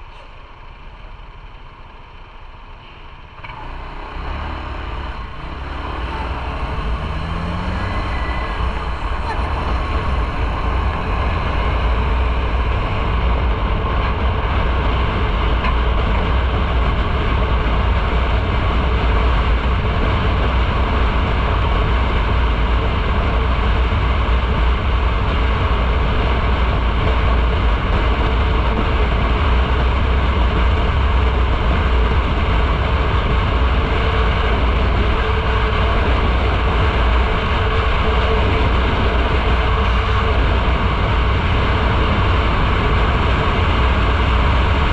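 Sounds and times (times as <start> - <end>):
motorcycle engine noise: 0.0 - 44.9
wind and road rumble: 0.0 - 44.9.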